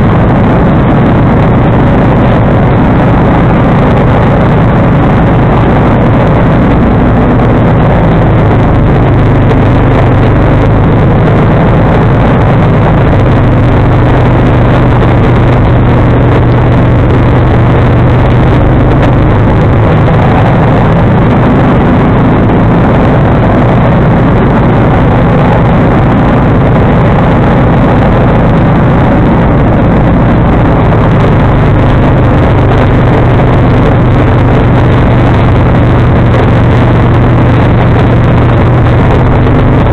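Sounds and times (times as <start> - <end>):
tractor engine humming: 0.0 - 39.9.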